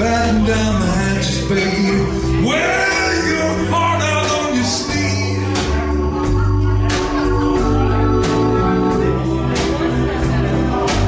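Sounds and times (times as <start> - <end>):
man singing: 0.0 - 10.3
live rock band playing: 0.0 - 11.0.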